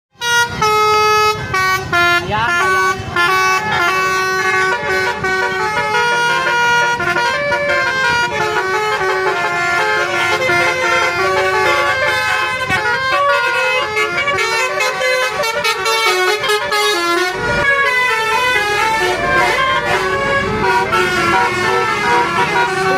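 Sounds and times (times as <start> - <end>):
musical air horns playing tunes: 0.1 - 22.9.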